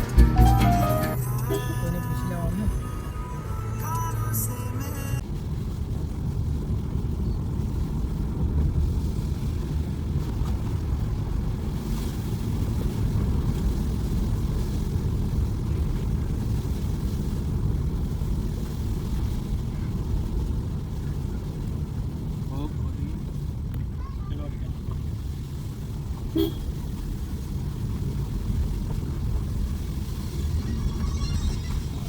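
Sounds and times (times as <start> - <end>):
car driving on road: 0.0 - 32.0.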